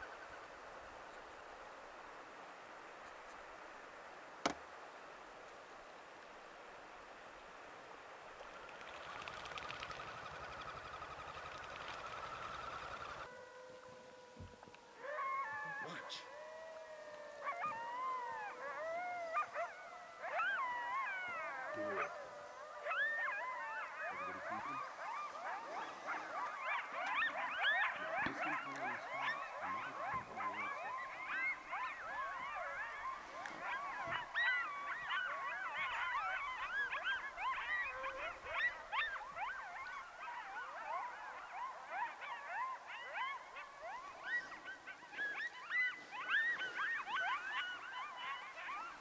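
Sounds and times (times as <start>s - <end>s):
coyotes howling: 8.3s - 49.0s.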